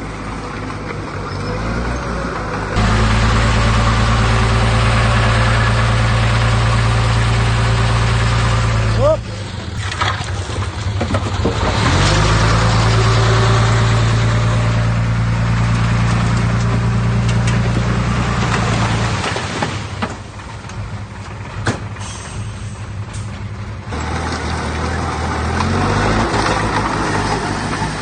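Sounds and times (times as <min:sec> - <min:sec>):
diesel machine engine revving: 0:00.0 - 0:28.0.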